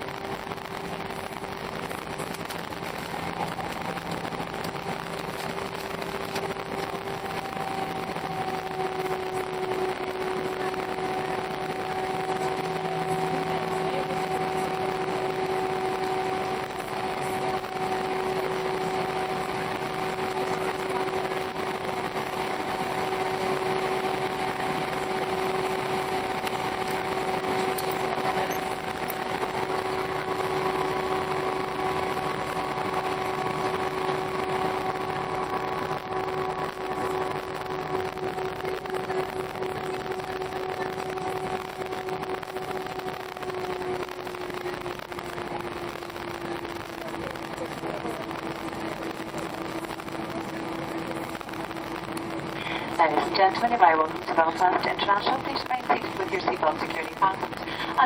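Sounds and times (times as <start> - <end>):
airplane cabin engine rush: 0.0 - 58.0
higher hum: 0.0 - 58.0.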